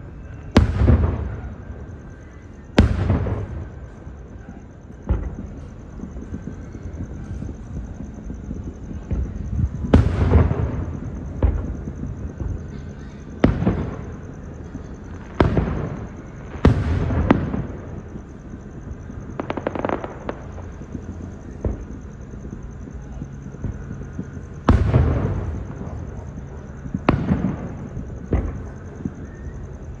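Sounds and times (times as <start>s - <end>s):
fireworks booming: 0.0s - 30.0s
rapid fireworks crackling: 0.0s - 30.0s.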